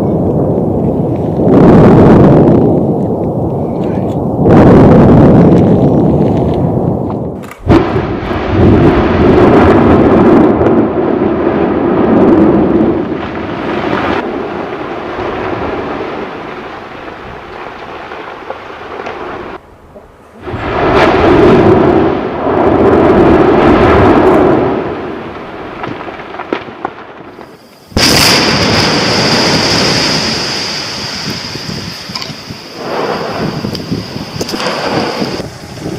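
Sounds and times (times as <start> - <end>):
dense rumble: 0.0 - 35.9
volcanic eruption blast: 0.0 - 35.9.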